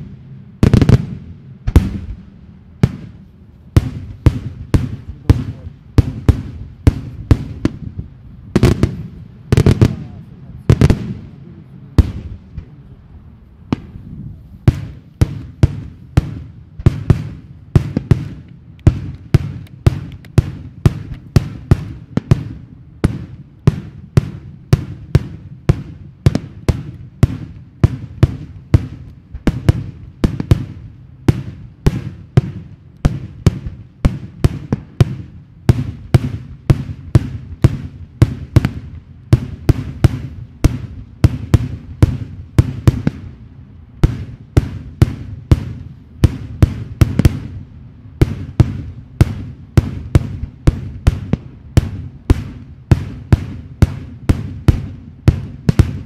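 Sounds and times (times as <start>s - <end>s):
fireworks bangs: 0.0s - 13.0s, 13.6s - 56.0s.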